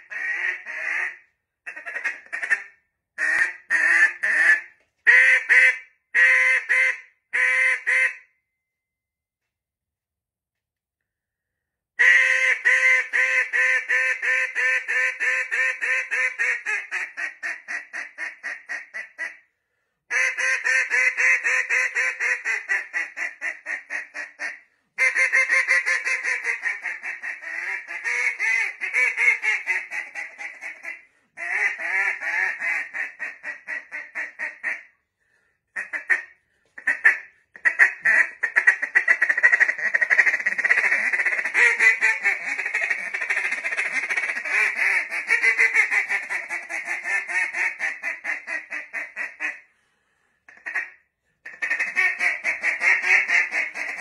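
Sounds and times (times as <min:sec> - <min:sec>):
duck call quacking: 0:00.0 - 0:08.3, 0:12.0 - 0:19.4, 0:20.1 - 0:35.0, 0:35.8 - 0:49.7, 0:50.5 - 0:54.0.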